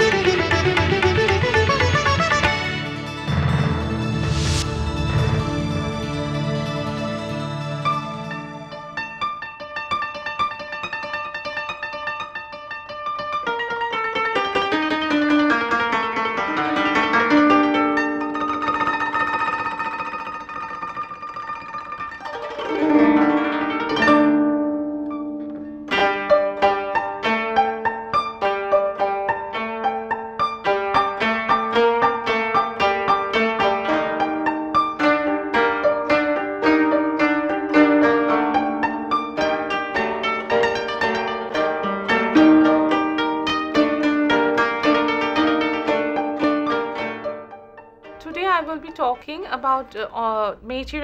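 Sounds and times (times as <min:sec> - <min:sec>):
plucked notes run: 0:00.0 - 0:49.8
held instrumental notes: 0:00.0 - 0:51.0.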